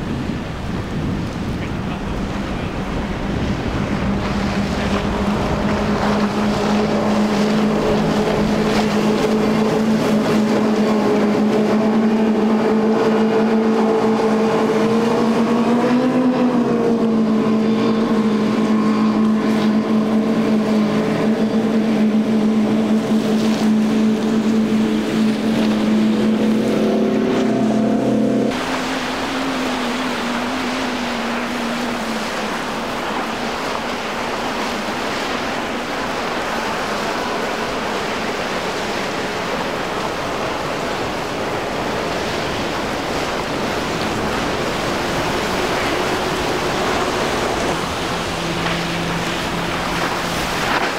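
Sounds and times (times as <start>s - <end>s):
boat engine drone: 0.0s - 50.9s
water rushing: 0.0s - 50.9s
wind: 0.0s - 50.9s.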